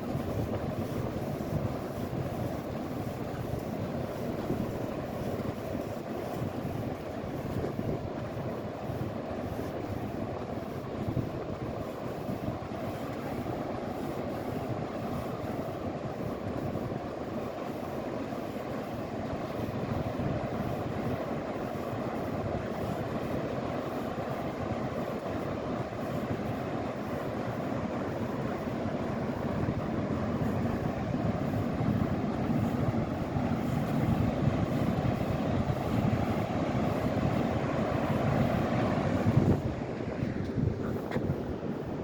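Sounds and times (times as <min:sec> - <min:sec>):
ocean surf roar: 0:00.0 - 0:42.0
wind: 0:00.0 - 0:42.0.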